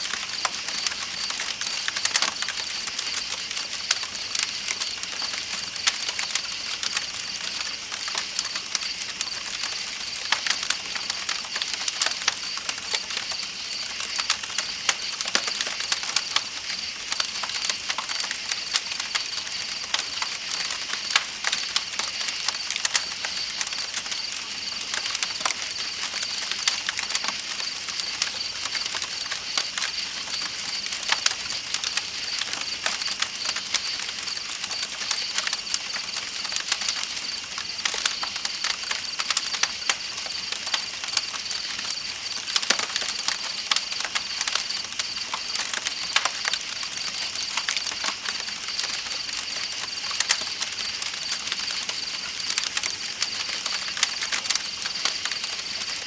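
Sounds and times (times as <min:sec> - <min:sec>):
campfire crackling and popping: 0:00.0 - 0:56.0
night insects chirring: 0:00.0 - 0:56.0.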